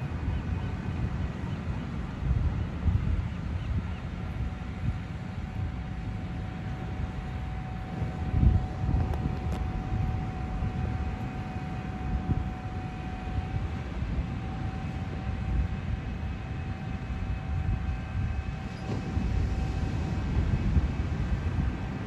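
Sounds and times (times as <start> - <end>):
thin steady whine: 0.0 - 22.0.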